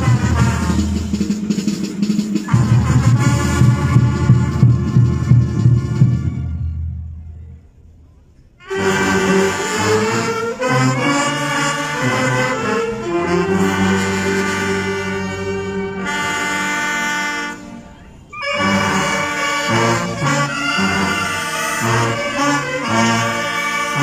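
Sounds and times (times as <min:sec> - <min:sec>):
brass band playing: 0:00.0 - 0:07.8, 0:08.6 - 0:24.0.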